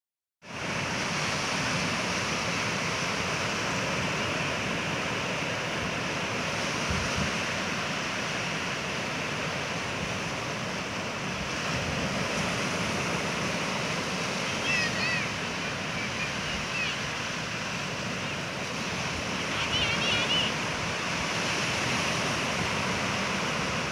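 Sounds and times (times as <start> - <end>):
ocean waves breaking on shore: 0.4 - 23.9.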